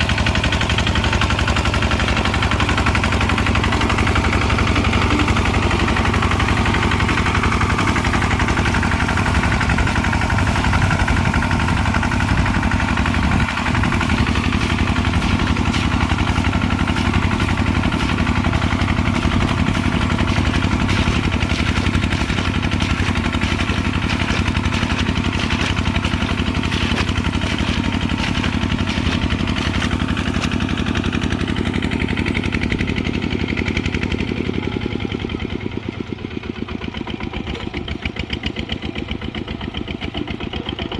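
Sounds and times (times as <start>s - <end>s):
diesel engine puttering: 0.0s - 40.9s.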